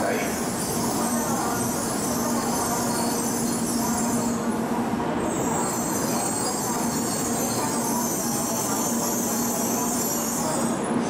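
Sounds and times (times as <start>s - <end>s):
train rolling into platform: 0.0s - 11.0s.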